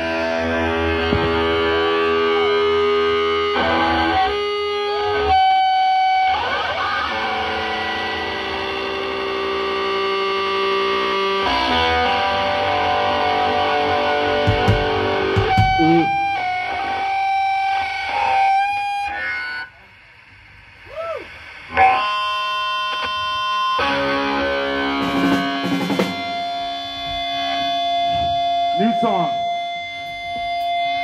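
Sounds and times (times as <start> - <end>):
punk band playing live: 0.0 - 6.3, 7.1 - 18.6, 23.0 - 31.0.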